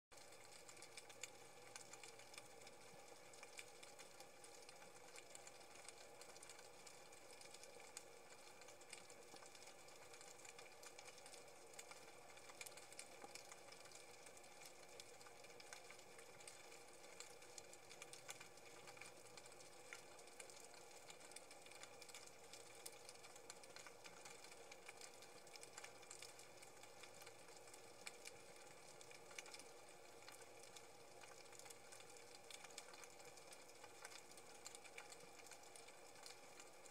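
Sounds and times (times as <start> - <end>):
faint steady hiss: 0.1 - 36.9
faint ticks: 0.2 - 36.9.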